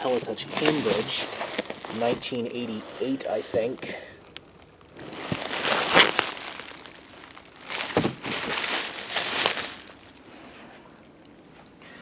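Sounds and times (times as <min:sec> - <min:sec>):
cardboard boxes rustling: 0:00.0 - 0:04.0, 0:04.9 - 0:10.8.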